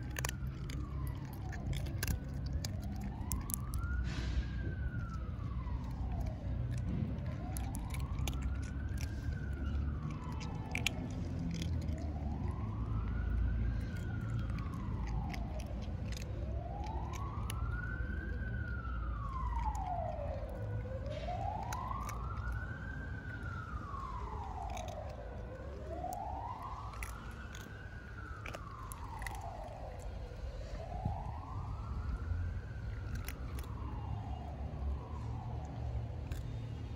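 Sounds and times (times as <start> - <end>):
cats crunching dry kibble: 0.0 - 36.9
emergency siren wailing: 0.0 - 36.9.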